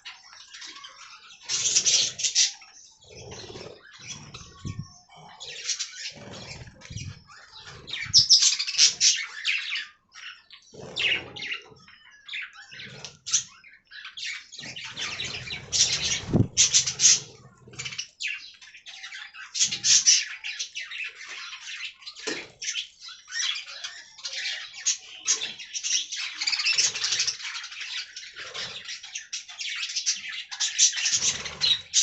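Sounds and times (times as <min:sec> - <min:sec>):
budgerigars chirping and chattering: 0:00.0 - 0:32.0.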